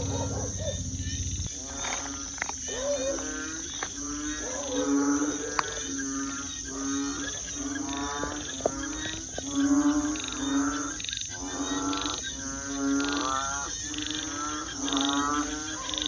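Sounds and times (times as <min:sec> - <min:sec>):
crickets trilling: 0:00.0 - 0:16.0
frogs croaking: 0:00.0 - 0:16.0.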